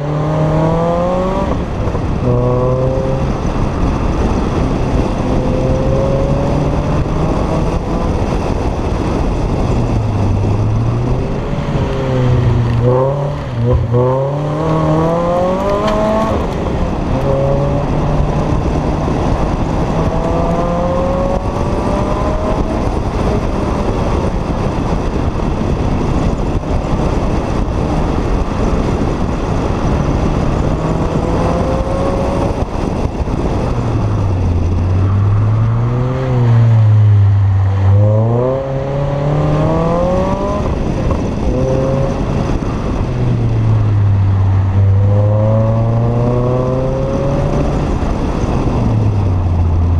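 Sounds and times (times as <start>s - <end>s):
car engine revving: 0.0s - 49.9s
wind and road noise: 0.0s - 49.9s.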